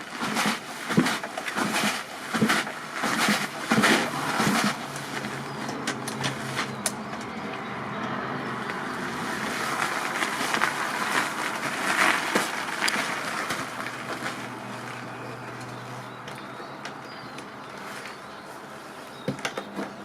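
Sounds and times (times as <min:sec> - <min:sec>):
two-stroke dirt bike engine: 0:00.0 - 0:16.8.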